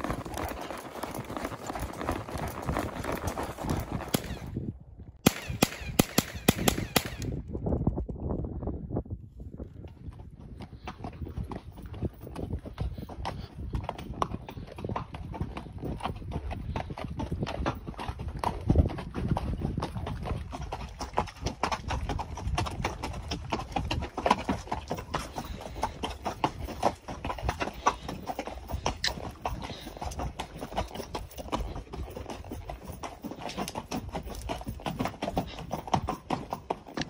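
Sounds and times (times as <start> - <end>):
hoofbeats on rocky trail: 0.0 - 8.6, 9.5 - 37.0.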